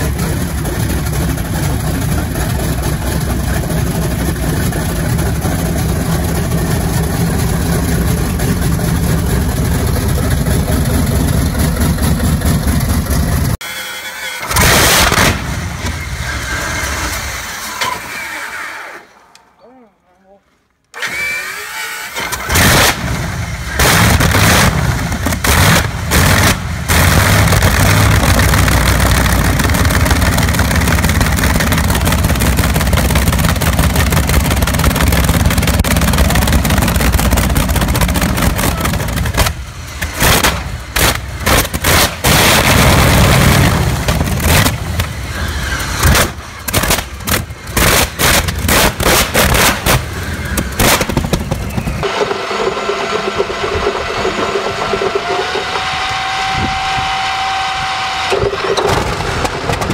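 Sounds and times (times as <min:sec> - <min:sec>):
aircraft engine starting and running: 0:00.0 - 0:19.1, 0:20.9 - 0:59.9.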